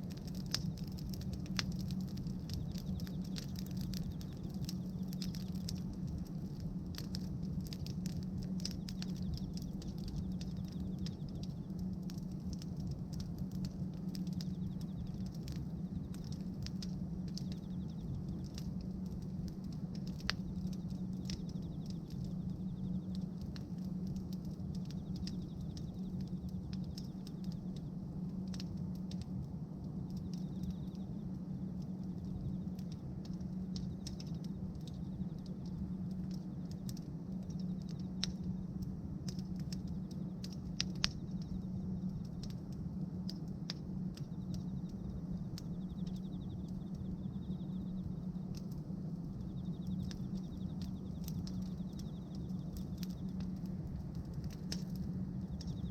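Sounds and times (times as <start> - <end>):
bonfire crackling: 0.0 - 55.9
sharp pops from fire: 0.0 - 55.9
steady low rumble: 0.0 - 55.9.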